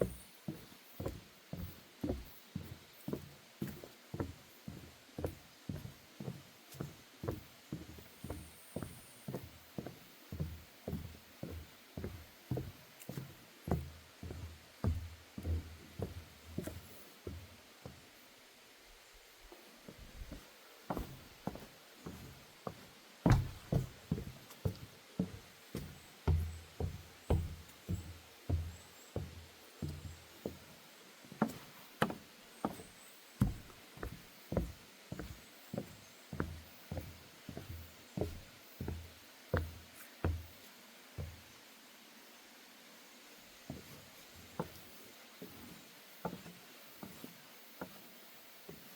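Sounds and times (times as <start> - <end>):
footsteps on wooden boardwalk: 0.0 - 18.2, 19.1 - 41.6, 43.6 - 48.9.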